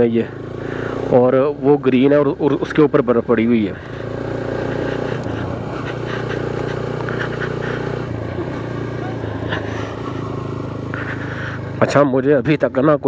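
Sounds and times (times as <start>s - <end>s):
motorcycle engine cruising: 0.0s - 13.0s
road and air noise: 0.0s - 13.0s.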